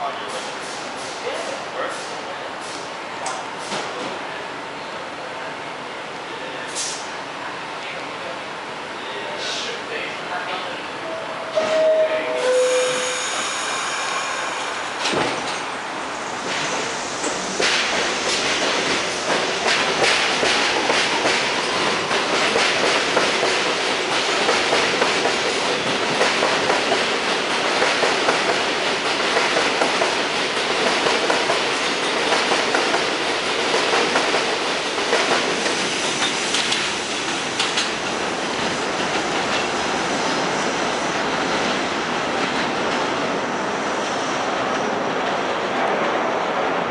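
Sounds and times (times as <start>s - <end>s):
subway train wheels clattering: 0.0s - 46.9s.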